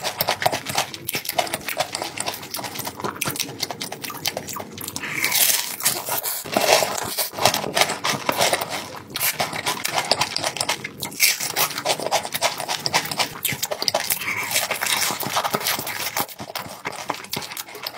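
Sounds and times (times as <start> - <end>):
wet mouth sounds: 0.0 - 7.7, 8.9 - 17.9
crunchy chewing: 0.0 - 17.9.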